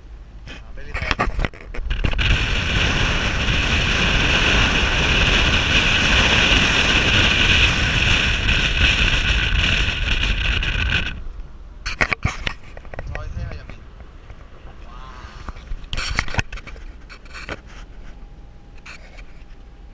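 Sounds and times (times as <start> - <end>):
car road noise: 0.0 - 19.9
wind rushing over microphone: 0.7 - 17.6.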